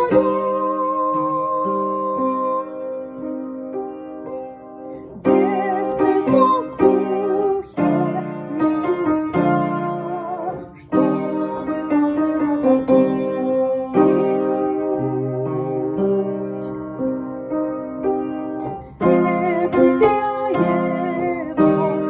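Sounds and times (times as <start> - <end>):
electric piano chords and melody: 0.0 - 22.0.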